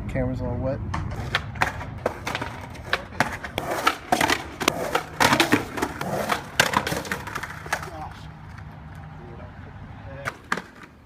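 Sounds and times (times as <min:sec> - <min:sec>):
skateboard clacking on pavement: 0:00.9 - 0:09.0, 0:10.2 - 0:11.0.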